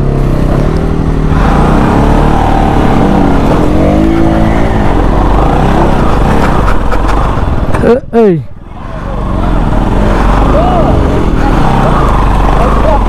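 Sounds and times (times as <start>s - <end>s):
motorcycle engine revving: 0.0s - 8.0s, 8.9s - 13.0s.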